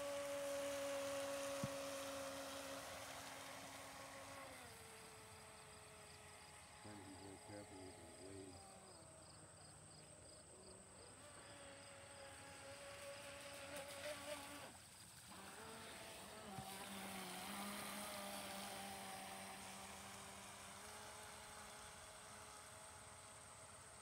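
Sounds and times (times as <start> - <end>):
toy speedboat motor whining: 0.0 - 9.2, 10.8 - 24.0.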